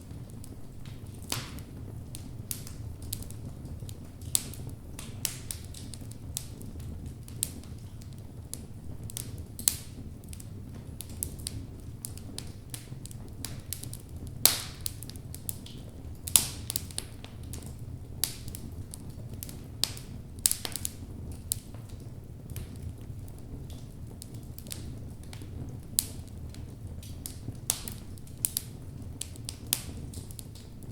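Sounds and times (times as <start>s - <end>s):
fire rumbling: 0.0s - 30.9s
wood crackling and popping: 0.0s - 30.9s.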